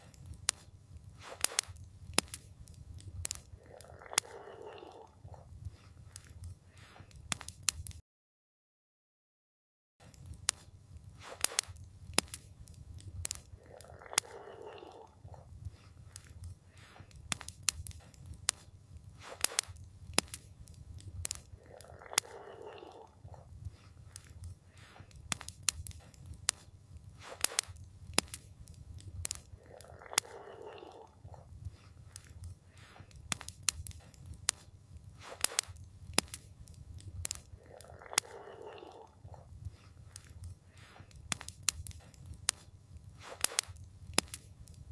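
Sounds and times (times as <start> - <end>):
campfire crackling and popping: 0.0 - 8.0, 10.0 - 44.9.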